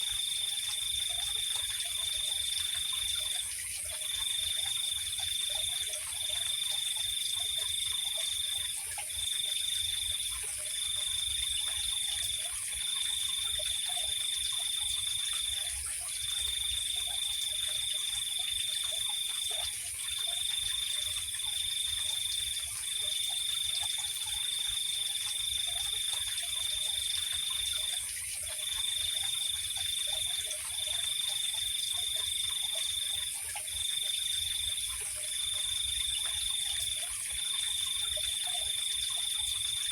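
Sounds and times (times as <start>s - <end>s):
faint frog calls: 0.0s - 39.9s
insect hiss: 0.0s - 39.9s.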